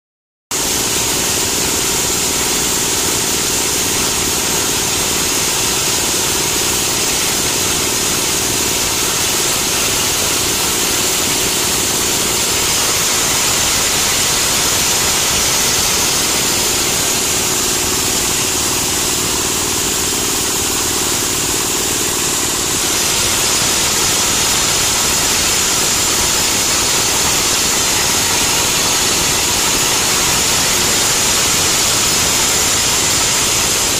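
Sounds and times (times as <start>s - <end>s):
diesel-driven grinding machine running: 0.6s - 33.9s.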